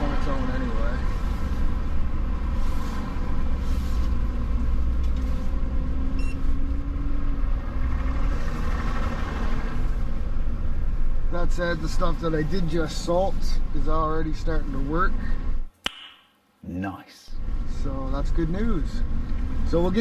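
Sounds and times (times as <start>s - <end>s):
road noise low rumble: 0.0s - 15.7s, 17.3s - 20.0s.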